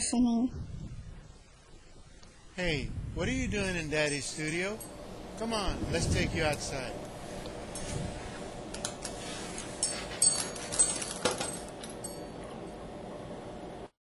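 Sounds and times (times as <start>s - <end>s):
low background noise: 0.0s - 13.9s.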